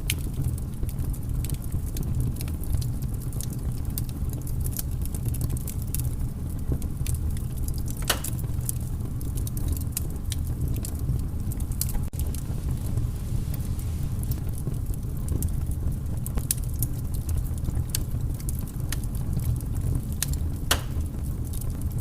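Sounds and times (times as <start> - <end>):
low fire rumble: 0.0 - 22.0
wood fire popping and snapping: 0.0 - 22.0.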